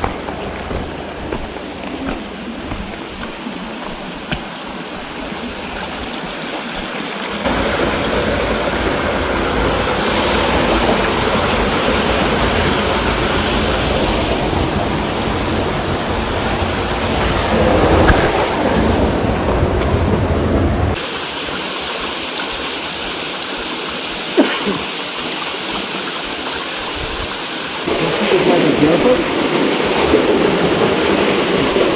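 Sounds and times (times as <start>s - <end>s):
rushing water: 0.0s - 31.9s.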